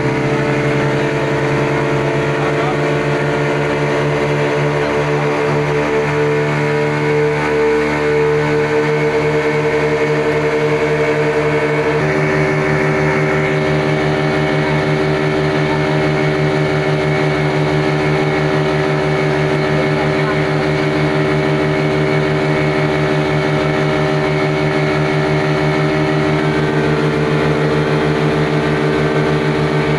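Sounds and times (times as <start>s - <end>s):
boat engines running: 0.0s - 29.9s
wind: 0.0s - 29.9s.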